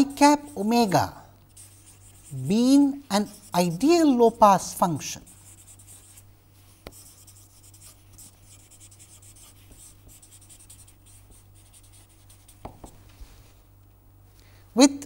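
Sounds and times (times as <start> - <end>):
marker scratching on paper: 0.0 - 13.0.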